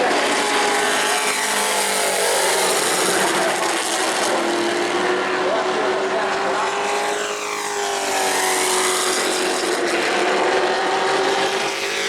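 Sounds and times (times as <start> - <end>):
race truck engines: 0.0 - 12.0.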